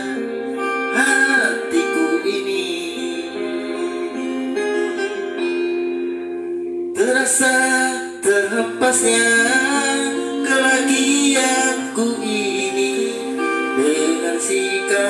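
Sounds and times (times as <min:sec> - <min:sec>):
man singing into a microphone: 0:00.0 - 0:05.5, 0:06.9 - 0:15.0
pop ballad backing track: 0:00.0 - 0:15.0.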